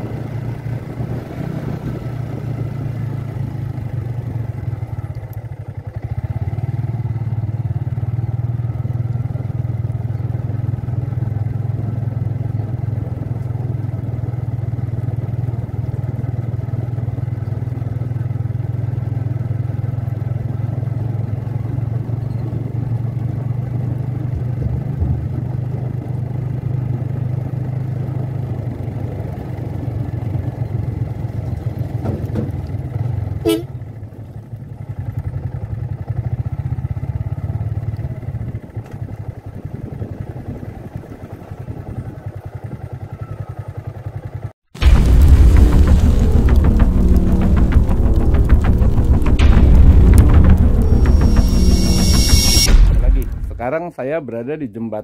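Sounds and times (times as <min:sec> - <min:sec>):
motorcycle engine running: 0:00.0 - 0:53.7.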